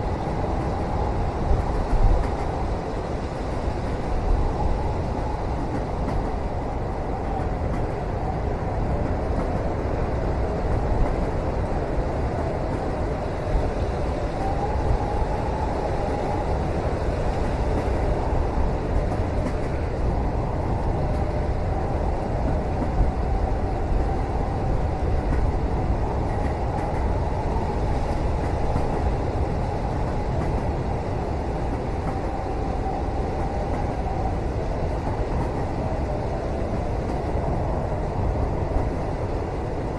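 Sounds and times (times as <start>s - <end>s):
train rumble inside cabin: 0.0s - 39.9s.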